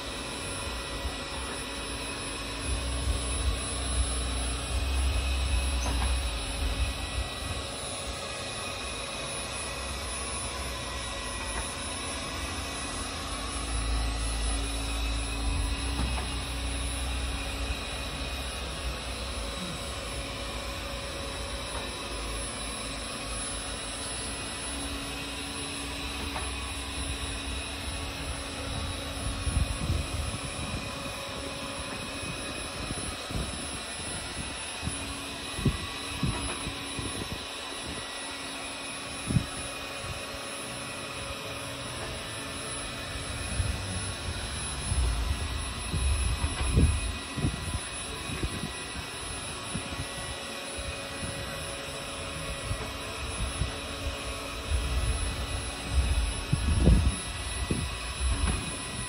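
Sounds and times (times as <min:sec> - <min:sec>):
robot suction fan whining: 0:00.0 - 0:59.0.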